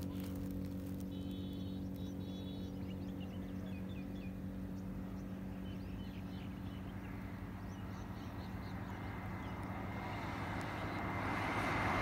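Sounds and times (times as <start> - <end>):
small birds chirping: 0.0 - 11.2
vehicle engine humming: 0.0 - 12.0.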